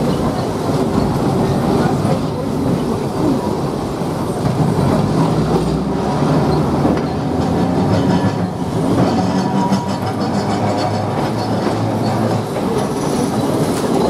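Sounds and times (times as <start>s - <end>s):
tram wheels rumbling: 0.0s - 14.0s
wheels clicking over track: 0.0s - 14.0s.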